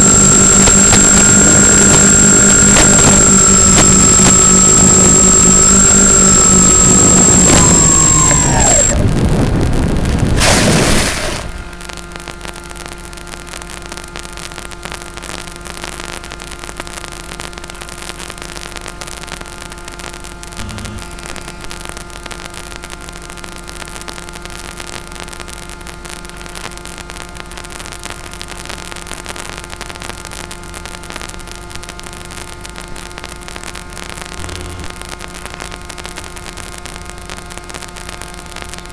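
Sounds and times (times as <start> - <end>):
electrical hum and whine: 0.0 - 38.9
radio static hiss: 0.0 - 38.9.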